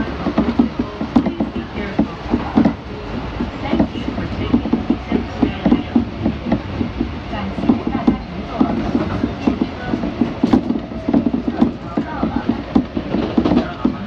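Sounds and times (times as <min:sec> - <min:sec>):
train running rumble: 0:00.0 - 0:14.0
wheels knocking on rails: 0:00.0 - 0:14.0.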